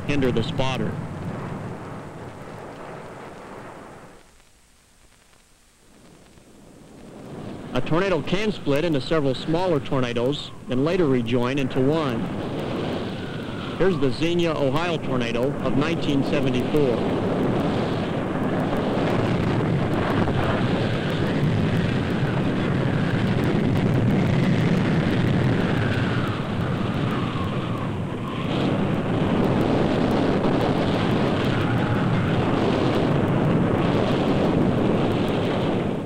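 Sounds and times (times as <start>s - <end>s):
tornado wind roaring: 0.0s - 4.3s, 5.9s - 36.0s.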